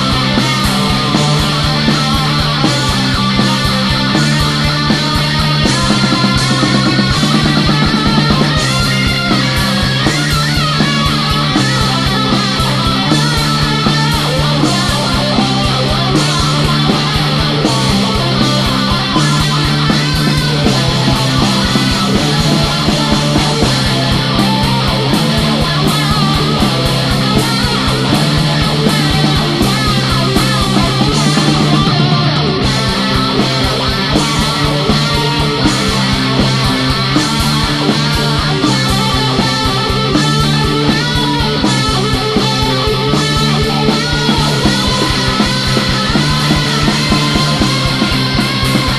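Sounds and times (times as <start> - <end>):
electric guitars: 0.0 - 48.9
fast driving drums: 0.0 - 48.9.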